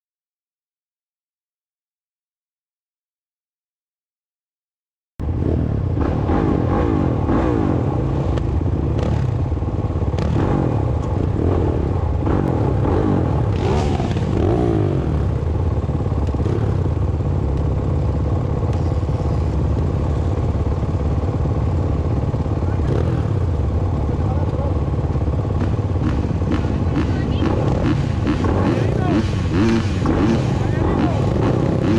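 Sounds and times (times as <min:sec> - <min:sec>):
motorcycle engine revving: 0:05.2 - 0:31.9.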